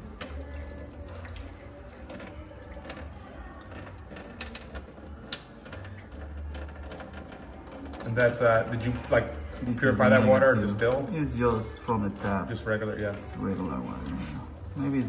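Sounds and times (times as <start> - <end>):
water splashing onto glass plate: 0.1 - 15.0.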